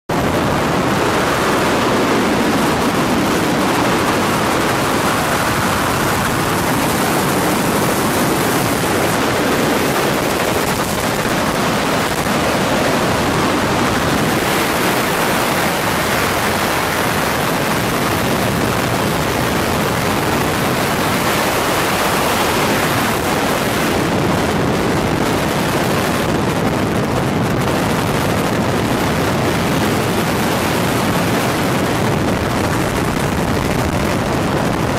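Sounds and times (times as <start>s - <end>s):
wind and helicopter roar: 0.1s - 34.9s.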